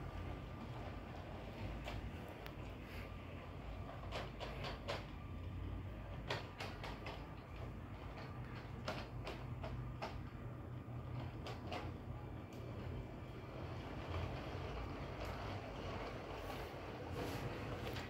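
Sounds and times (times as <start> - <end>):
toy train motor hum: 0.0 - 18.0
wheels clicking over track joints: 0.0 - 18.0.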